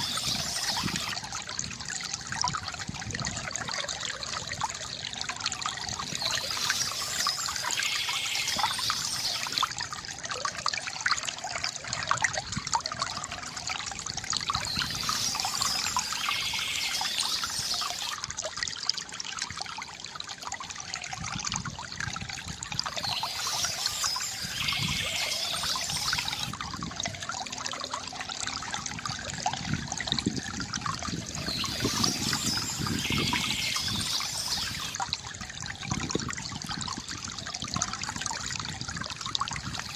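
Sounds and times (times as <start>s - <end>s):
water trickling from bamboo fountain: 0.0s - 39.9s.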